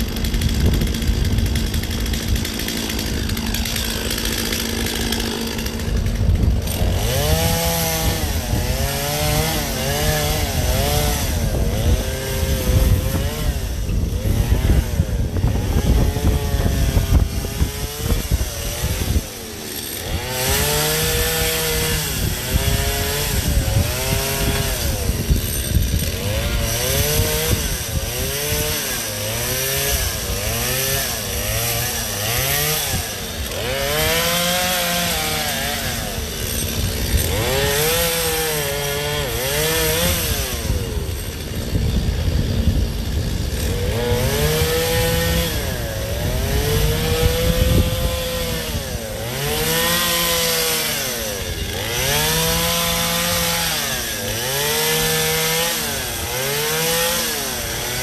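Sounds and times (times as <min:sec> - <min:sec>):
chainsaw revving cutting ice: 0:00.0 - 0:58.0.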